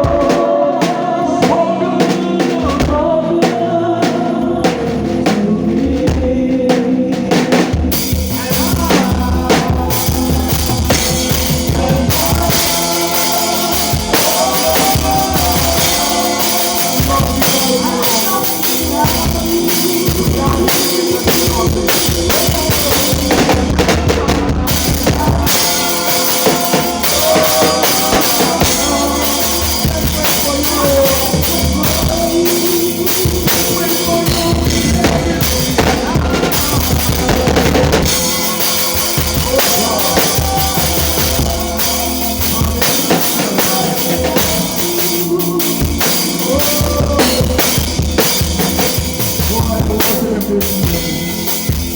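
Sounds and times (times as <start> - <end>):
loud drum kit: 0.0 - 51.9
worship band playing: 0.0 - 51.9.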